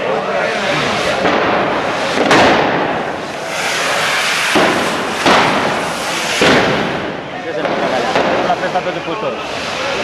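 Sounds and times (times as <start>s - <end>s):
loud bangs: 0.9s - 10.0s
fizzing hiss of rockets: 1.0s - 10.0s.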